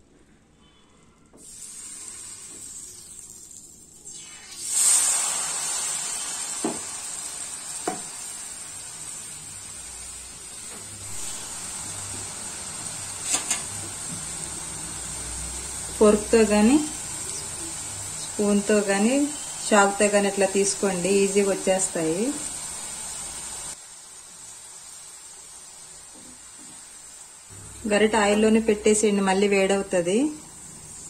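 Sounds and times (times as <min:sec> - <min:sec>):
deep-frying sizzle in hot oil: 0:01.4 - 0:31.0.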